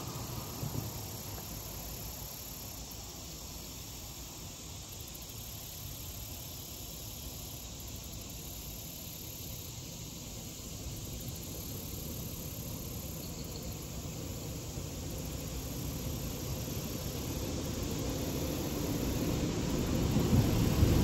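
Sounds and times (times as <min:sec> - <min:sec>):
background hiss: 0:00.0 - 0:21.0
insects chirring: 0:00.0 - 0:21.0.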